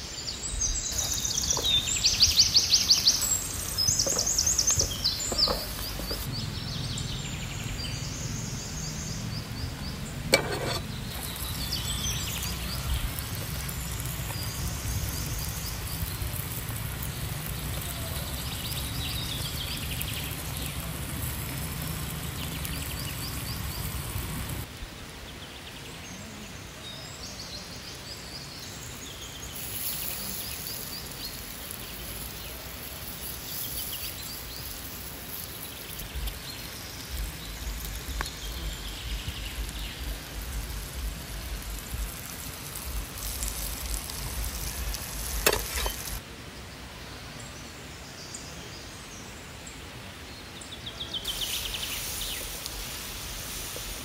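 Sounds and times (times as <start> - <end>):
vegetables sizzling in a pan: 0.0 - 24.7, 28.6 - 46.2, 51.2 - 54.0
birds chirping: 0.0 - 46.8, 47.4 - 54.0.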